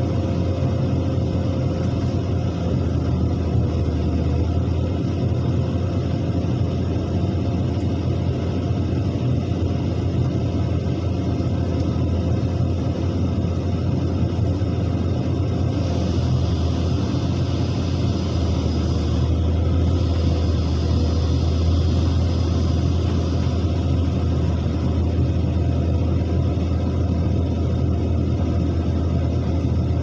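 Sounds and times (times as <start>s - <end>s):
diesel machinery rumbling: 0.0s - 30.0s.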